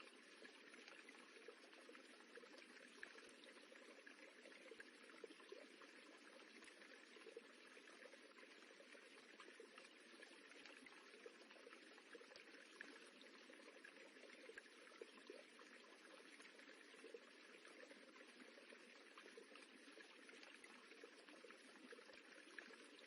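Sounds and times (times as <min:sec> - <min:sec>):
running water rippling: 0:00.0 - 0:23.0.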